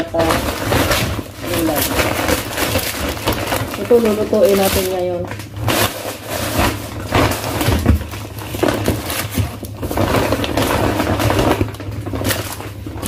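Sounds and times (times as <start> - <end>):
bags and paper rustling: 0.0 - 13.0
items knocking: 0.0 - 13.0.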